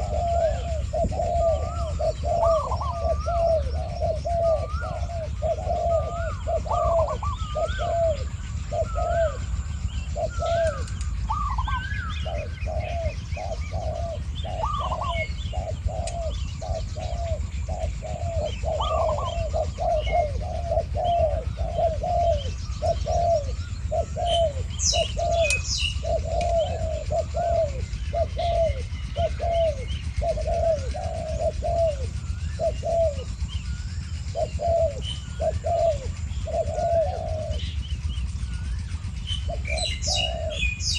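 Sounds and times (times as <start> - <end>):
doves cooing: 0.0 - 40.9
small birds chirping: 0.0 - 40.9
steady low rumble: 0.0 - 40.9.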